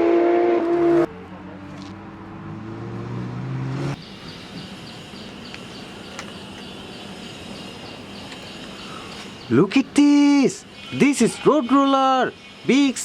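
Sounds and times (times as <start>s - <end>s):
car engine humming: 0.7s - 12.9s.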